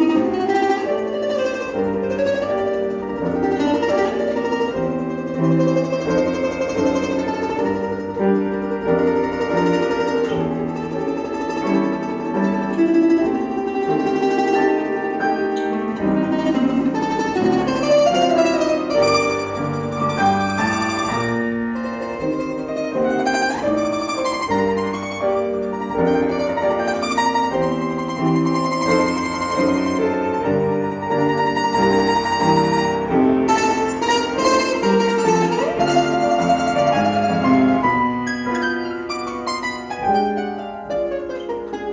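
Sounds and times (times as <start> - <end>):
plucked string music: 0.0 - 41.9.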